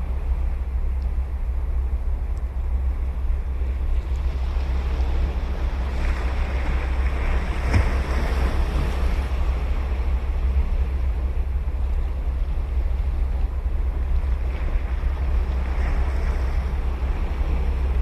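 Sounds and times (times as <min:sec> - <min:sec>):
ocean waves breaking: 0:00.0 - 0:18.0
wind on microphone: 0:00.0 - 0:18.0.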